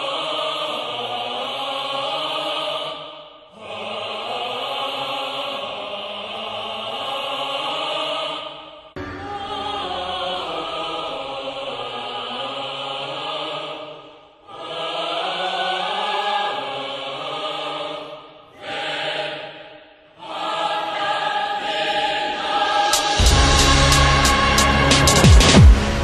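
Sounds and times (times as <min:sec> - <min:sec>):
wordless choral voices: 0:00.0 - 0:26.0.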